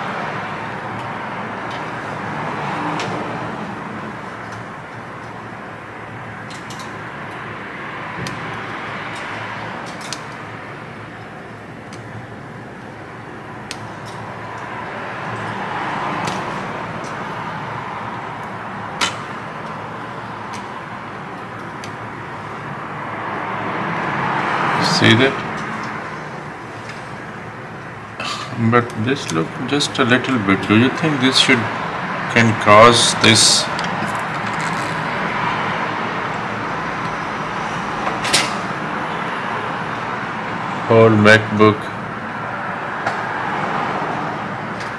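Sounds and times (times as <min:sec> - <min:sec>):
steady rushing background noise: 0:00.0 - 0:44.9.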